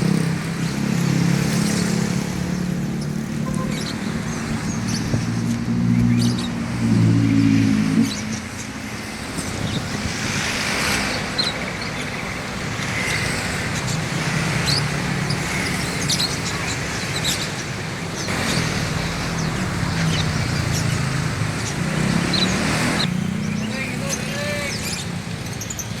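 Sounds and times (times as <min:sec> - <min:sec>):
small songbirds chirping: 0:00.0 - 0:06.9, 0:07.5 - 0:26.0
road traffic noise: 0:00.0 - 0:26.0.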